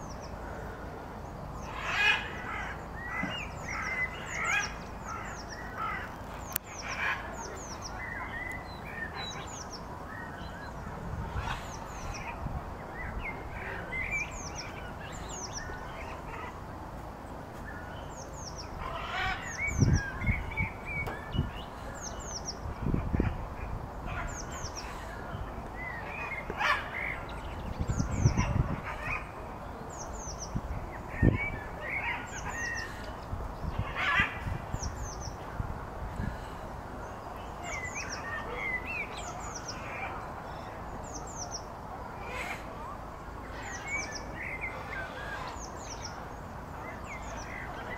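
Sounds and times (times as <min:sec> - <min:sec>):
birds chirping and singing: 0:01.2 - 0:16.6, 0:17.6 - 0:47.9.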